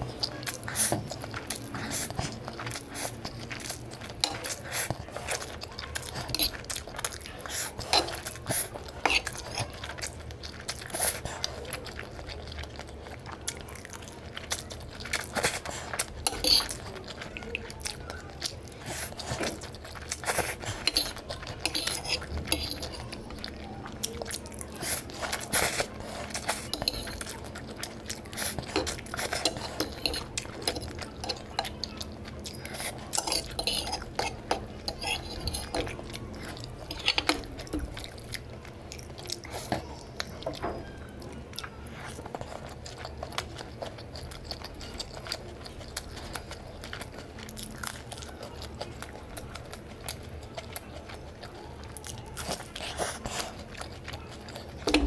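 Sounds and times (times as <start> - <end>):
chewing and smacking: 0.0 - 55.0.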